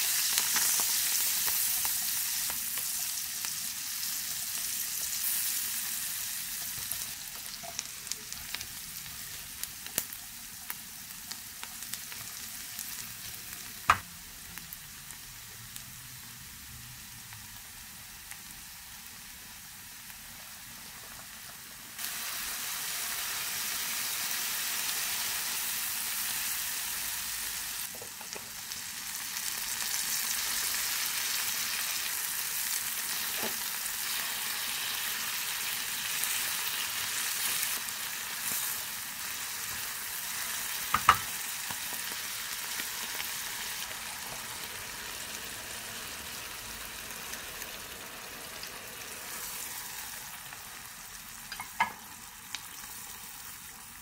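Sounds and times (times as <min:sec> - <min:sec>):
onion sizzling in a frying pan: 0:00.0 - 0:54.0.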